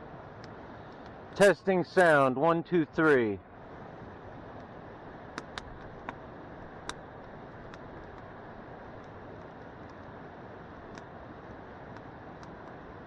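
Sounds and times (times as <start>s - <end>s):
microphone background hiss: 0.0s - 13.0s.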